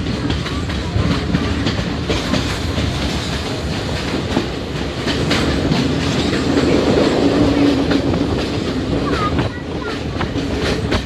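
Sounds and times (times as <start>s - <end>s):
train rumble inside carriage: 0.0s - 11.0s
wheels clicking over rail joints: 0.0s - 11.0s.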